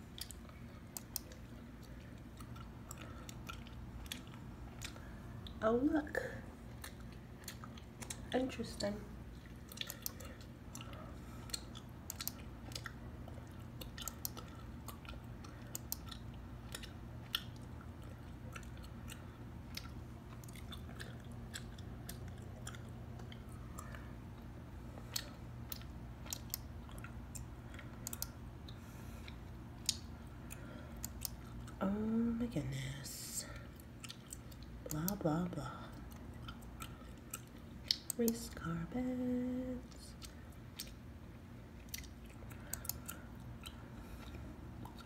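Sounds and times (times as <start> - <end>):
gum chewing clicks and smacks: 0.0 - 32.7, 33.4 - 45.0
steady low hum: 0.0 - 45.0.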